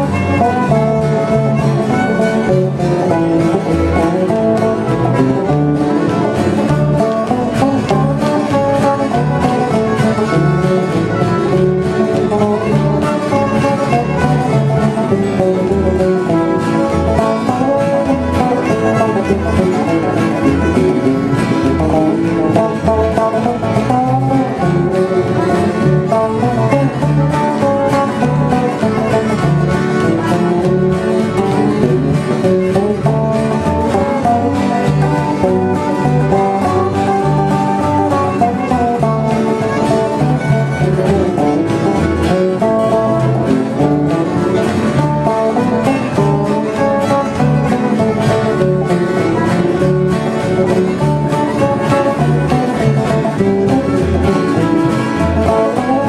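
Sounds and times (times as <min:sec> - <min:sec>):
country guitar instrumental: 0:00.0 - 0:56.0
low bass notes: 0:00.0 - 0:56.0.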